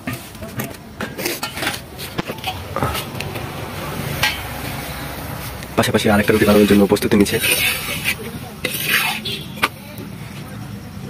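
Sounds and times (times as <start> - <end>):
metal utensils and pots clinking: 0.0 - 10.2.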